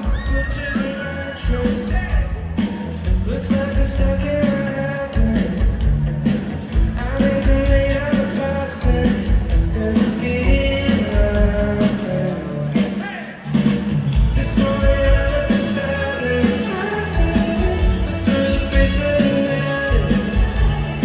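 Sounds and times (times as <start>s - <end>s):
person singing: 0.0s - 5.9s, 6.8s - 13.3s, 14.2s - 21.0s
bass guitar: 0.0s - 21.0s
steady drum beat: 0.0s - 21.0s.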